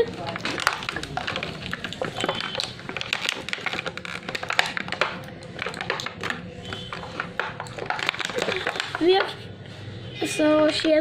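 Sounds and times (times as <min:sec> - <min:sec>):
plastic packaging clicking and rattling: 0:00.0 - 0:09.4.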